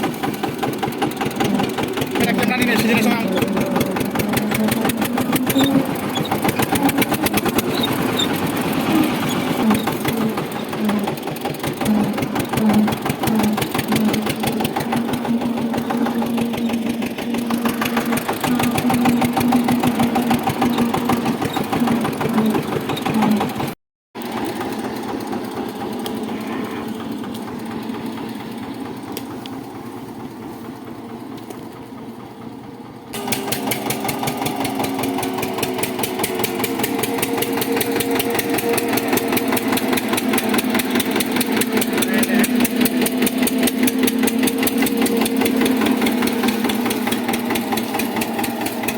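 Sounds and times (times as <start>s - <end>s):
tractor engine chugging: 0.0s - 48.9s.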